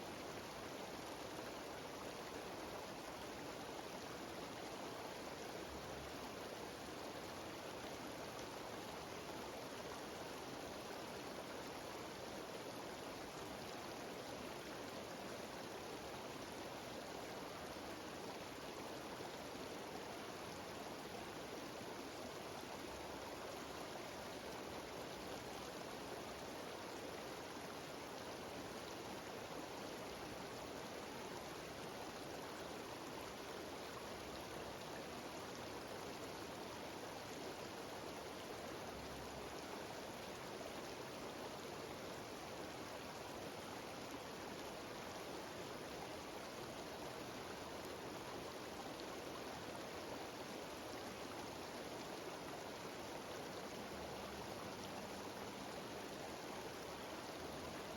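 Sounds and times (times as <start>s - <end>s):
stream cascading down waterfall: 0.0s - 57.9s.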